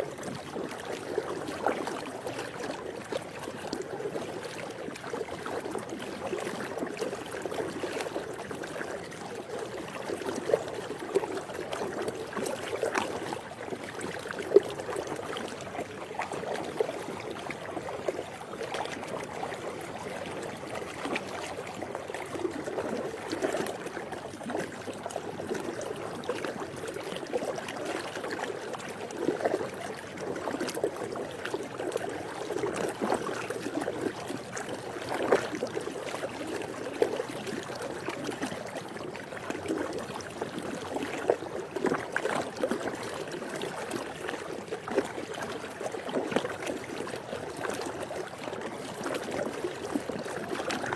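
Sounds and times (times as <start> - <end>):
pool water lapping and sloshing: 0.0 - 50.9
small water splashes: 0.0 - 50.9.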